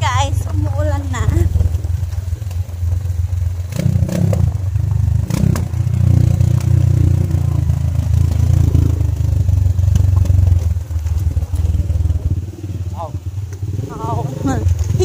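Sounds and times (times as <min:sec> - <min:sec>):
motorcycle engine running: 0:00.0 - 0:15.0
motorcycle rattling over stones: 0:00.0 - 0:15.0.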